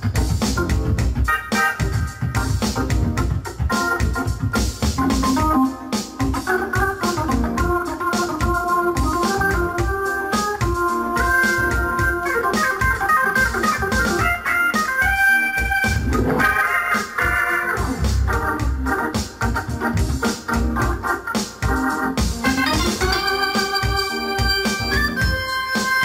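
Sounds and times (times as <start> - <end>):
organ playing chords: 0.0 - 26.0
steady beat: 0.0 - 26.0.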